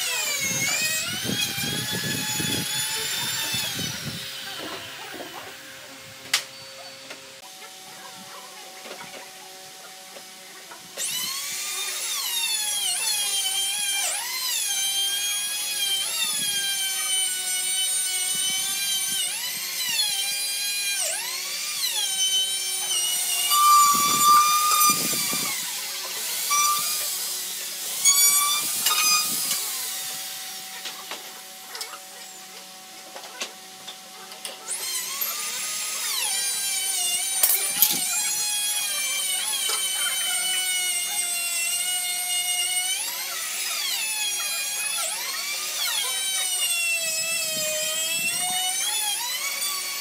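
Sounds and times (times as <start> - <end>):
router whining: 0.0 - 7.9, 8.8 - 50.0.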